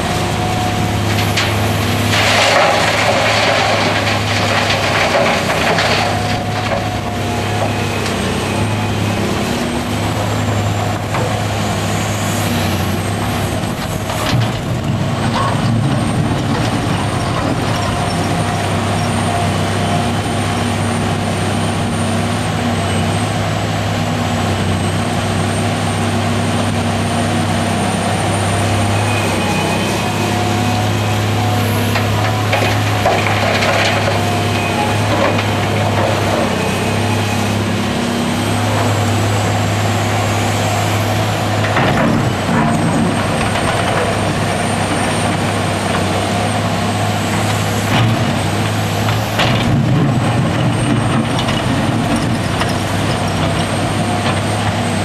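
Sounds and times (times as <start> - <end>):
dump truck engine running: 0.0 - 55.0
excavator diesel engine running: 0.0 - 55.0.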